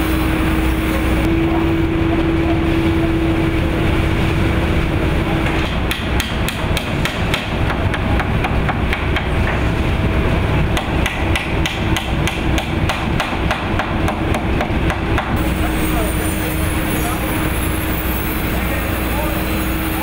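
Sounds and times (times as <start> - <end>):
low drone of shop machinery: 0.0 - 20.0.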